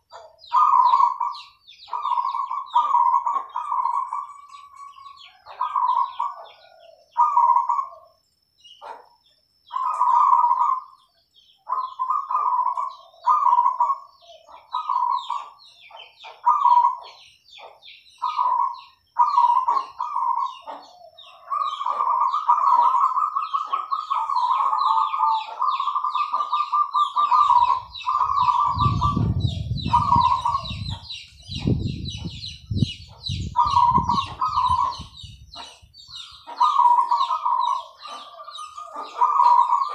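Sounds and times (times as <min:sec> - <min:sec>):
doves cooing: 0:00.0 - 0:08.2, 0:09.7 - 0:39.9
small birds chirping: 0:00.0 - 0:39.9.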